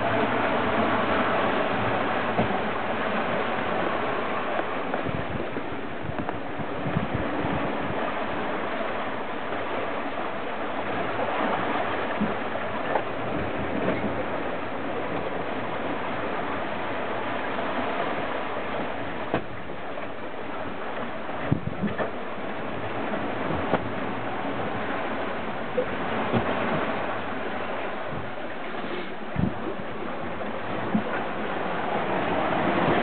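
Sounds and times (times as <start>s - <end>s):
water rushing past boat hull: 0.0s - 33.0s
wind: 0.0s - 33.0s.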